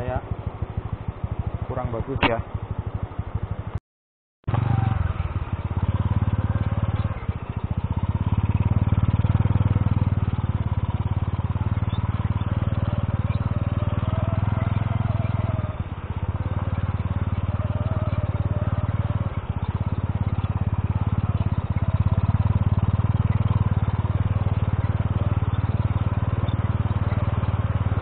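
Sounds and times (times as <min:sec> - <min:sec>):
motorcycle engine running: 0:00.0 - 0:03.8, 0:04.5 - 0:28.0.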